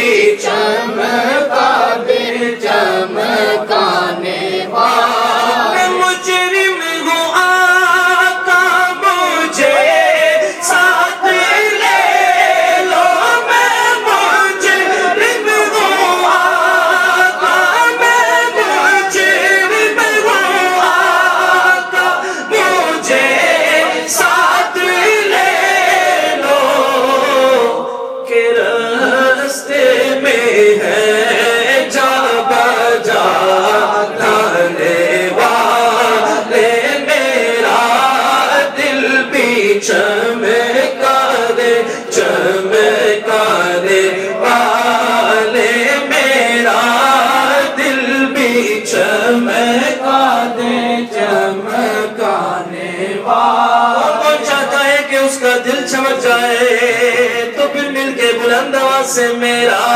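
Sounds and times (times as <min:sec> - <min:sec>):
man singing over a pa: 0:00.0 - 0:59.9.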